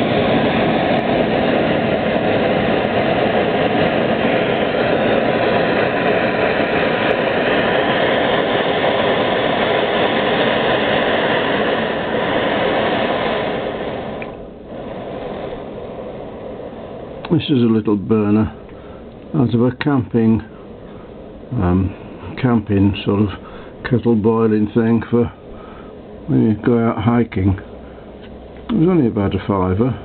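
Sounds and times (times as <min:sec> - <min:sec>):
gas burner flame rushing: 0:00.0 - 0:30.0.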